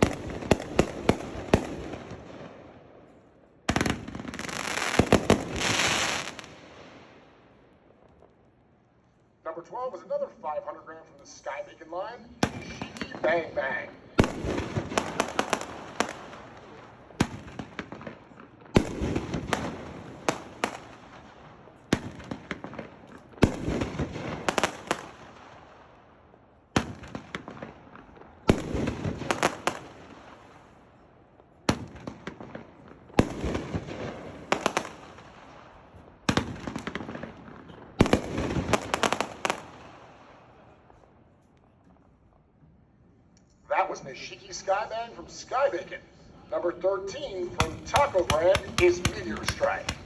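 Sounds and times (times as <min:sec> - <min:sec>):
fireworks bangs and crackles: 0:00.0 - 0:08.6, 0:12.3 - 0:42.4, 0:44.6 - 0:50.0.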